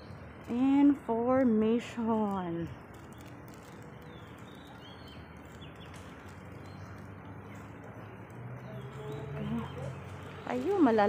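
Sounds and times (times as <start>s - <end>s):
birds chirping faintly: 0.0s - 11.0s
footsteps on paving stones: 0.0s - 11.0s.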